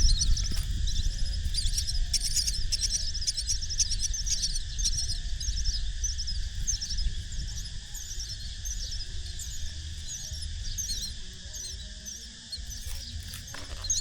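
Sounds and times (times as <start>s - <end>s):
low rumble: 0.0s - 11.4s
nestling birds chirping: 0.0s - 14.0s.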